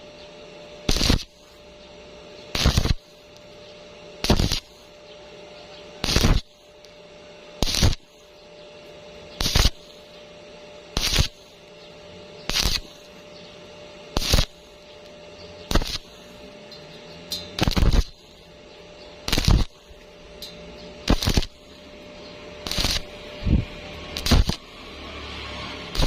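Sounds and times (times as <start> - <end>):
welding arc crackling: 0.0 - 5.1, 6.0 - 26.0
steady hum: 0.0 - 26.0.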